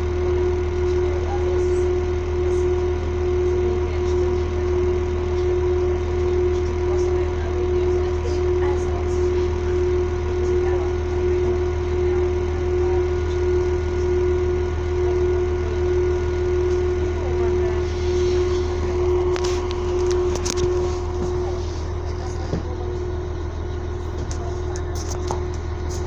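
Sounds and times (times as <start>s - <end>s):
train machinery humming: 0.0s - 26.0s.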